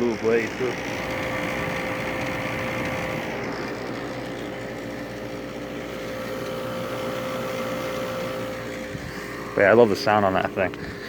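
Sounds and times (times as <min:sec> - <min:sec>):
compressor humming: 0:00.0 - 0:11.0
fan rushing: 0:00.0 - 0:11.0.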